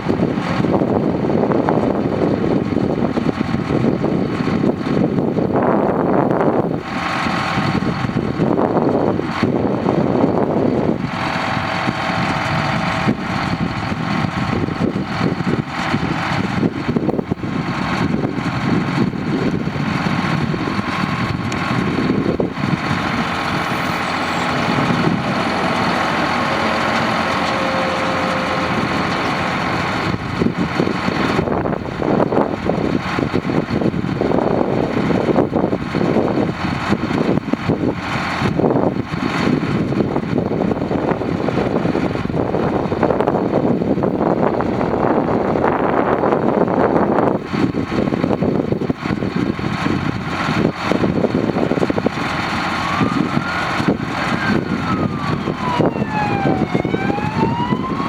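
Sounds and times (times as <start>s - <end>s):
drilling rig engine idling: 0.0s - 58.0s.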